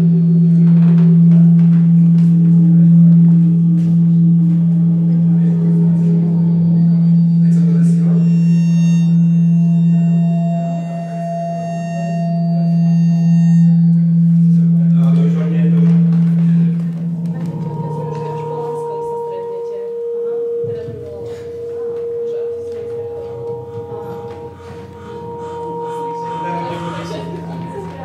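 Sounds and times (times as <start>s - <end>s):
microphone feedback tones: 0.0s - 28.0s.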